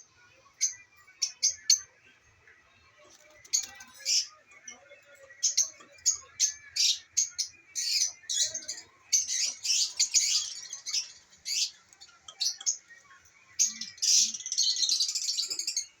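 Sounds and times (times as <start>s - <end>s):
lovebirds chirping: 3.2s - 16.0s.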